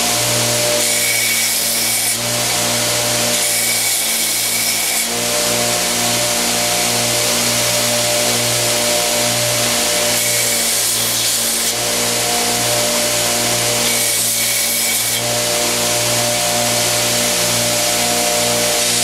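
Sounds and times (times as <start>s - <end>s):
belt grinder motor hum: 0.0s - 19.0s.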